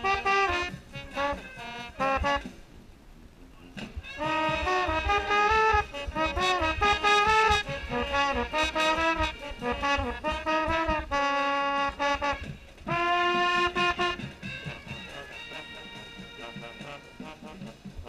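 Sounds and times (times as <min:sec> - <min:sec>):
marching band brass playing: 0:00.0 - 0:02.8, 0:03.8 - 0:18.0.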